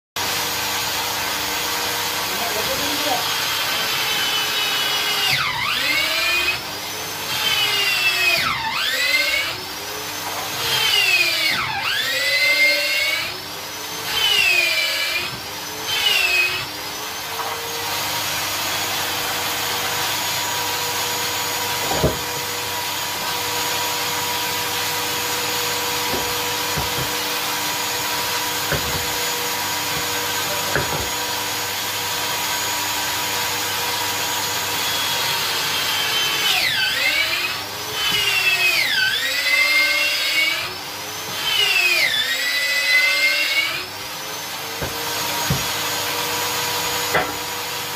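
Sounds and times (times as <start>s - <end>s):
electric drill boring into wood: 0.2s - 47.9s.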